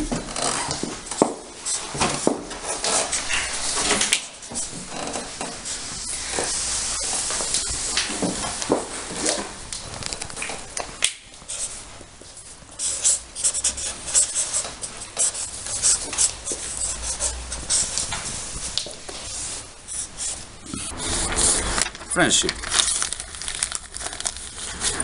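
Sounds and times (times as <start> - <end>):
markers squeaking on paper: 1.7 - 10.8, 12.4 - 25.0.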